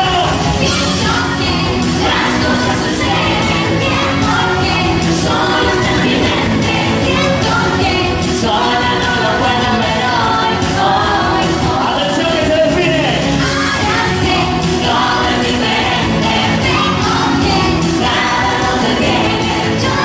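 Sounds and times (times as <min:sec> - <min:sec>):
pop song with singing: 0:00.0 - 0:20.0.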